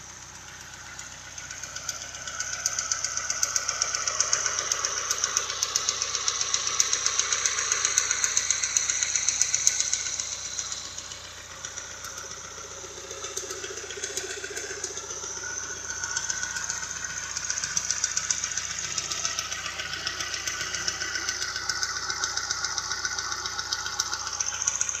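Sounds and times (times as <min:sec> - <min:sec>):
engine running with fast ticking: 0:00.0 - 0:25.0.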